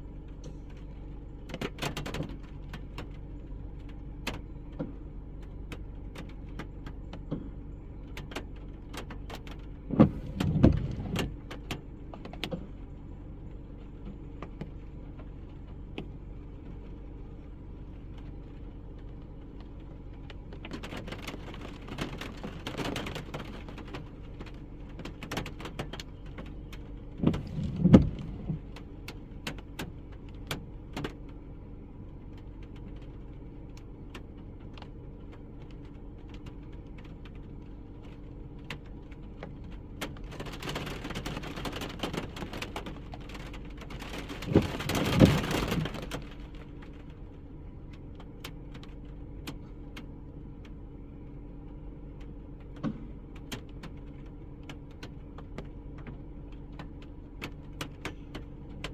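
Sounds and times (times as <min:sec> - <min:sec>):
vehicle engine running: 0:00.0 - 0:58.9
sharp clicks and rattles: 0:00.3 - 0:50.8, 0:51.6 - 0:58.9.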